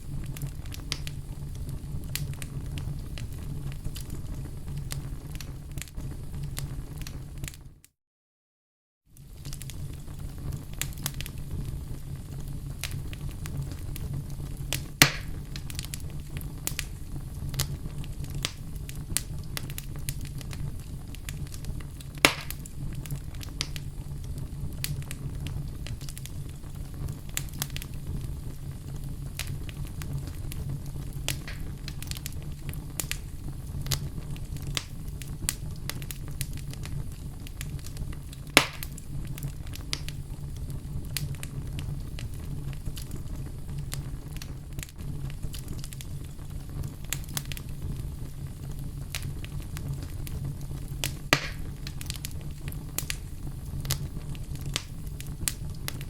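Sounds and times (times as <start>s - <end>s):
loud fire pops: 0.0s - 7.7s, 9.2s - 56.0s
fire rumbling and crackling: 0.0s - 7.9s, 9.0s - 56.0s.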